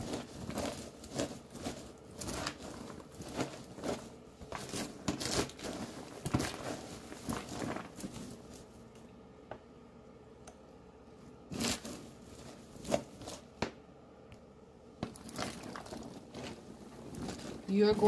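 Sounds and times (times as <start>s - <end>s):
popcorn rustling and crunching: 0.0s - 9.1s, 11.3s - 13.7s, 15.0s - 18.0s.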